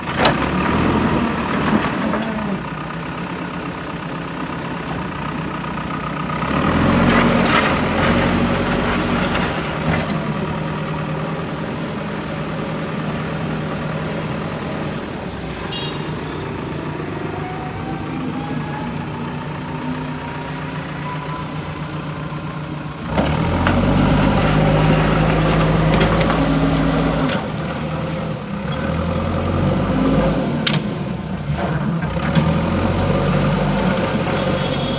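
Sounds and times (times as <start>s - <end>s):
diesel engine under load: 0.0s - 34.9s.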